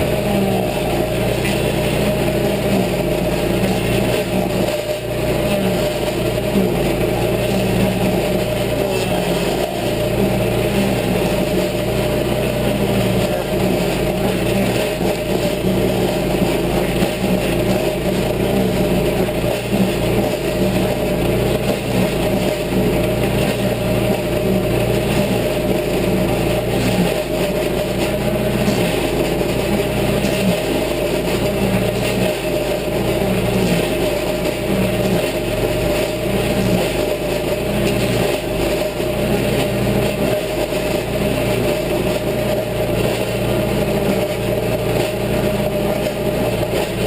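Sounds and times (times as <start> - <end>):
cutter wheel grinding stump: 0.0 - 47.0
stump grinder engine running: 0.0 - 47.0.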